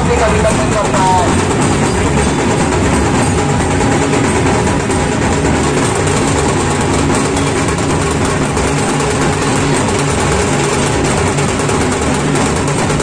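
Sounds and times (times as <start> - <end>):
crowd din: 0.0 - 13.0.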